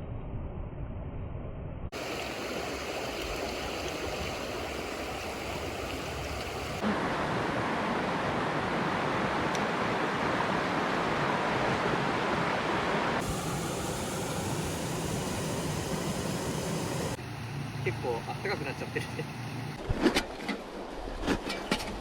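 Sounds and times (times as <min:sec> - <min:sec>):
stream water rushing: 0:01.9 - 0:19.8.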